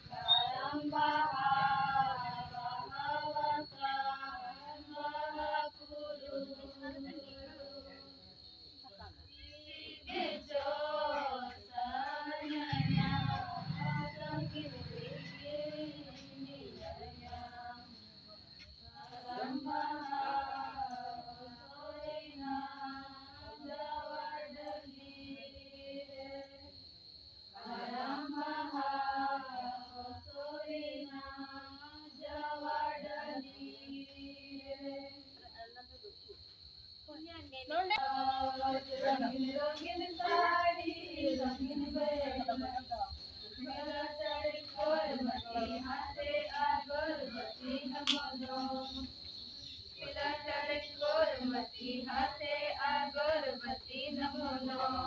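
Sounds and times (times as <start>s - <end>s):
voices singing long gliding notes: 0.0s - 8.0s, 9.3s - 18.3s, 19.0s - 26.7s, 27.5s - 35.3s, 37.7s - 55.0s.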